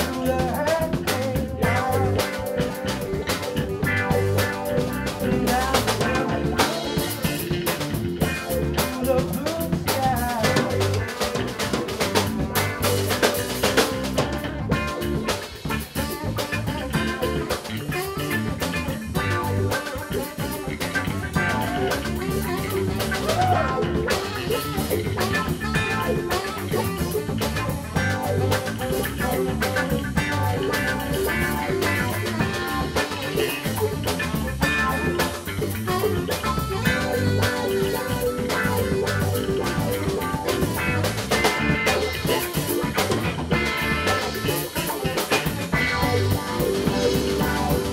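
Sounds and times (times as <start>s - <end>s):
drum kit beat: 0.0s - 47.9s
electric guitars: 0.0s - 47.9s
live rock band playing: 0.0s - 47.9s.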